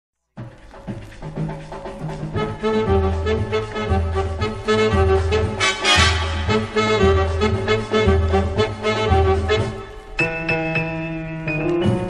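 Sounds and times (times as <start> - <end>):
upbeat instrumental music: 0.4 - 12.0.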